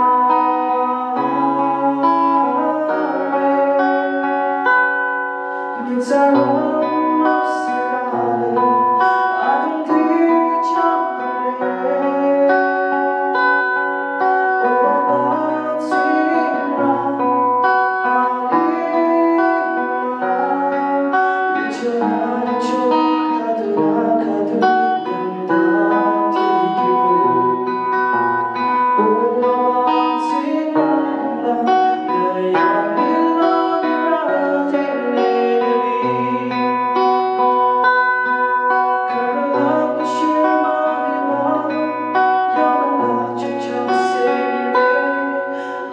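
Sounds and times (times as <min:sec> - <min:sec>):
acoustic guitar strumming: 0:00.0 - 0:45.9
man singing: 0:00.0 - 0:45.9.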